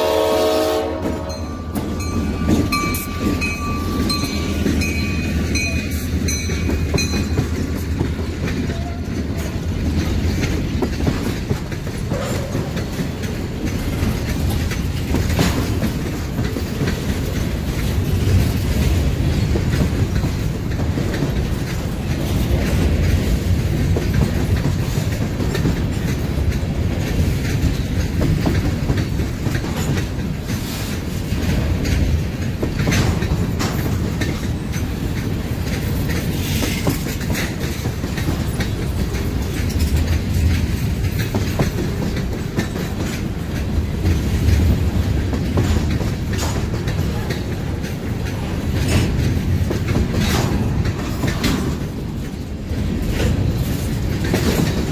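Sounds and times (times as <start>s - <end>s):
freight train rumbling past: 0.0s - 54.9s
train wheels clacking on rail joints: 0.0s - 54.9s.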